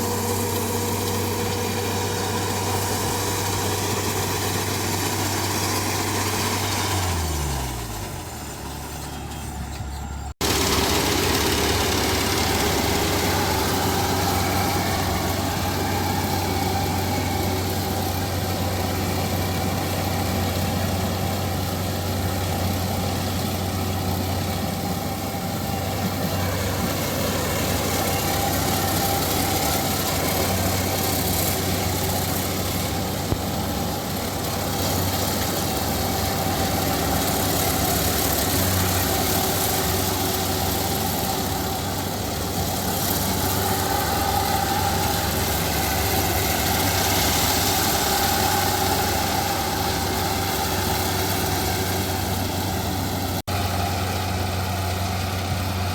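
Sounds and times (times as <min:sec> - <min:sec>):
harvester engine humming: 0:00.0 - 0:55.9.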